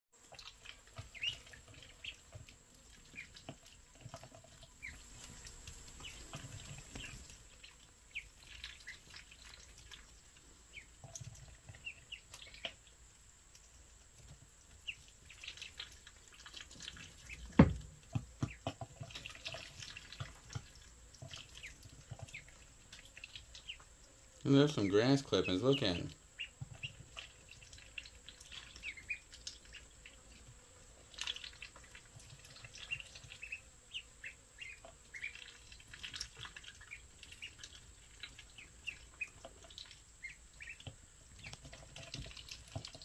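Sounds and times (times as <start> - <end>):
water dripping: 0.2 - 43.0
ducklings peeping: 0.3 - 12.9, 13.6 - 43.0.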